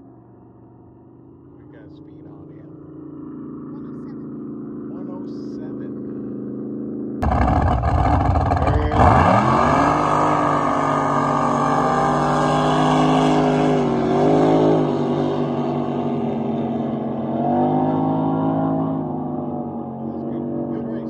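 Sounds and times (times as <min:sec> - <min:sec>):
racing boat engine at full throttle: 0:01.6 - 0:21.0.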